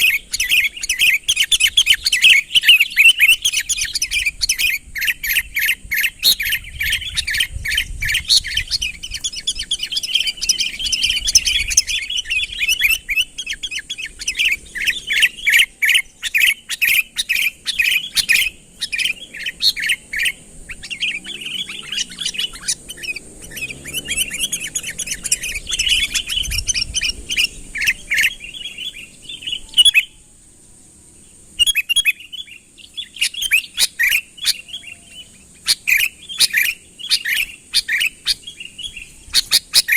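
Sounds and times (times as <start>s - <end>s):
bulbul chattering: 0.0s - 30.2s, 31.1s - 39.9s.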